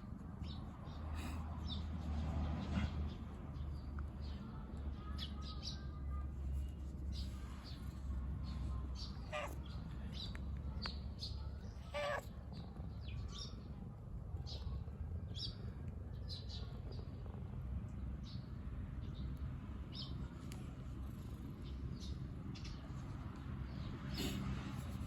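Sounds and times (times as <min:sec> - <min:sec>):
small birds chirping: 0:02.7 - 0:25.0.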